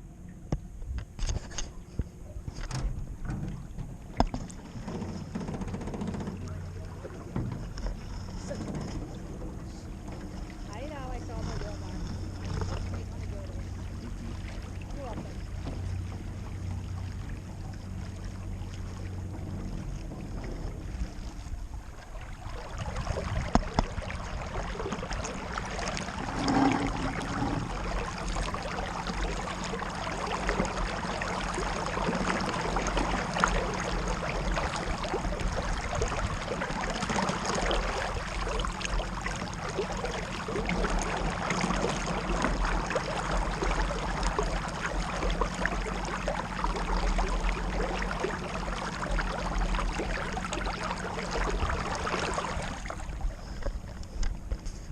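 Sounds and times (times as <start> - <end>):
boat motor hum: 0.0 - 54.9
water rushing past hull: 1.4 - 54.9.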